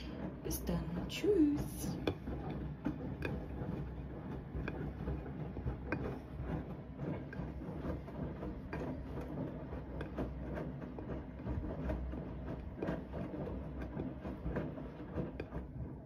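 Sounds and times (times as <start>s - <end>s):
washing machine drum humming: 0.0s - 16.0s
water and laundry sloshing: 0.0s - 16.0s.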